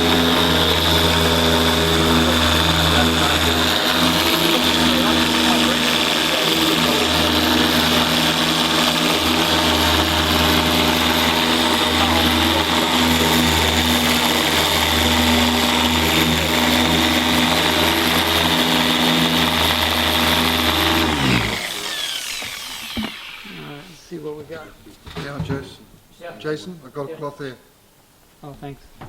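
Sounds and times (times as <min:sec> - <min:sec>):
polisher spinning down: 0:00.0 - 0:24.0
polisher running: 0:00.0 - 0:24.1.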